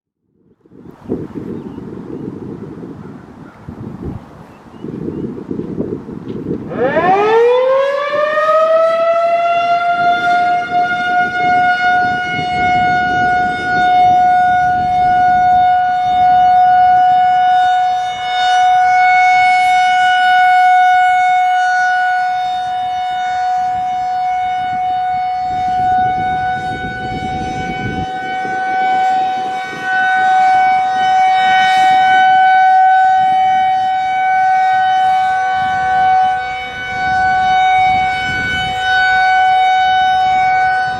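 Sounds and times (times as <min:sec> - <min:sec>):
warning siren winding up: 0:06.5 - 0:40.9.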